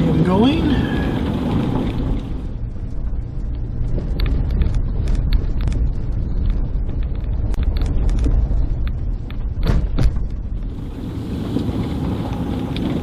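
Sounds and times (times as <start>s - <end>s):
car tyre rumble on gravel: 0.0s - 13.0s.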